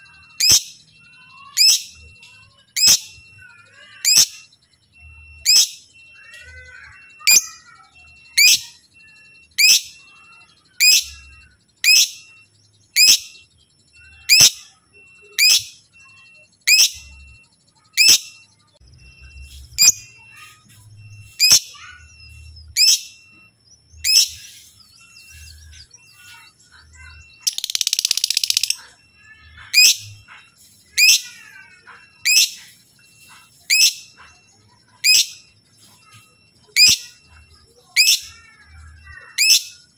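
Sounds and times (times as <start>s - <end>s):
lovebird chirping: 0.0s - 39.9s.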